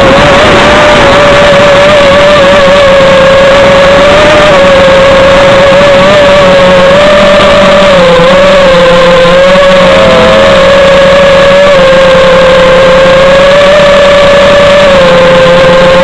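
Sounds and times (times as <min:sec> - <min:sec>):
drone motors and propellers buzzing: 0:00.0 - 0:16.0.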